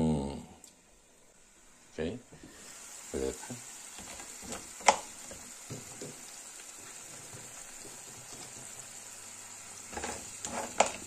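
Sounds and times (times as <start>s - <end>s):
crab sizzling in a pot: 1.2s - 11.0s.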